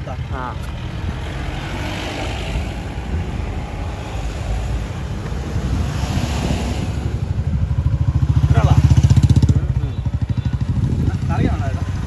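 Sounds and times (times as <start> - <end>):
vehicle engine rumble: 0.0 - 12.0
wind buffeting microphone: 0.7 - 12.0.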